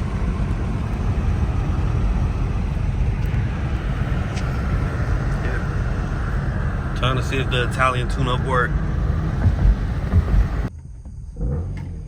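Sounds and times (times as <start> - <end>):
car engine rumble: 0.0 - 12.0
exhaust noise: 0.0 - 12.0
road noise: 0.0 - 12.0.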